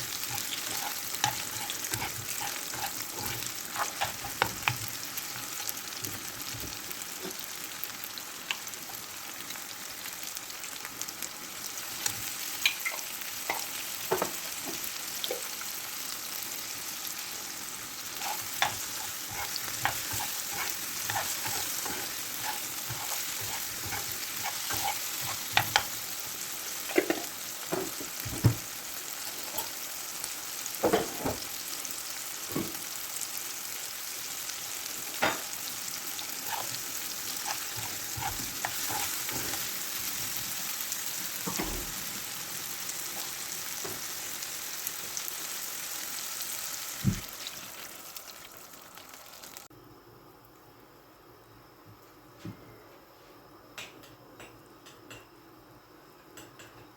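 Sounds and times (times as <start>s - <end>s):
food sizzling in oil: 0.0s - 49.7s.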